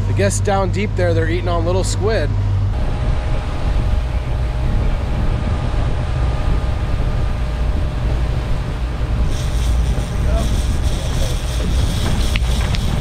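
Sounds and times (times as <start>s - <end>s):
boat engine rumbling: 0.0s - 13.0s
wind: 0.0s - 13.0s.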